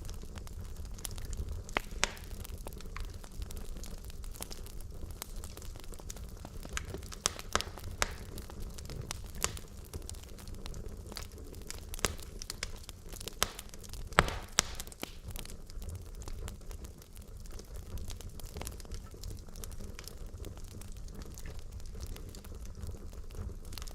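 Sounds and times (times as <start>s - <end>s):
fire crackling and popping: 0.0s - 23.9s.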